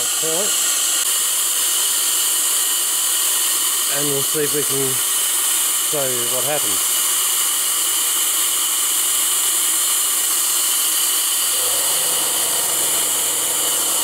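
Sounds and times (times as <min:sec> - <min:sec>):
compressed air hissing from pipe fittings: 0:00.0 - 0:14.0.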